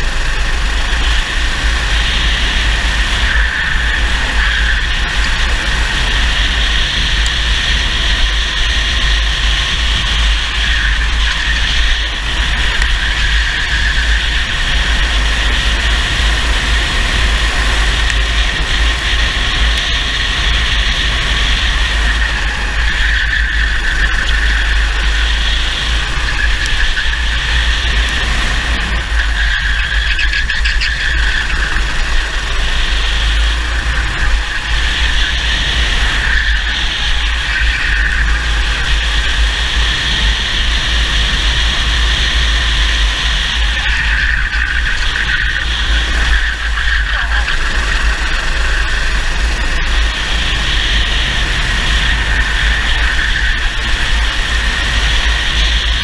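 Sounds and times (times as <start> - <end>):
racing kart engine at high revs: 0.0 - 56.0
steady low rumble: 0.0 - 56.0.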